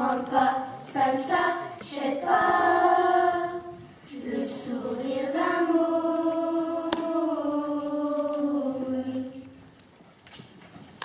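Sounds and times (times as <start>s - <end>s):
children's choir singing: 0.0s - 9.6s.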